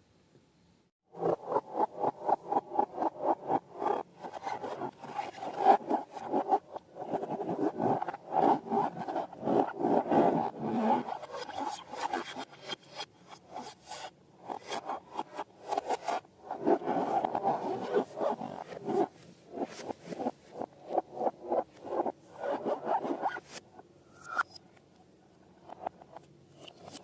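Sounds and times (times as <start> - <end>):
rubbing and scraping strokes: 1.1 - 24.6.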